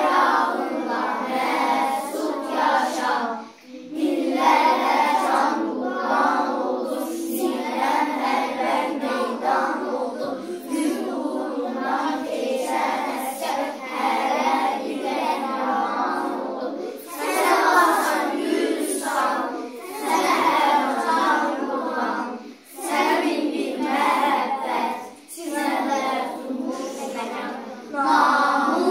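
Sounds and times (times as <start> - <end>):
children singing in chorus: 0.0 - 28.9.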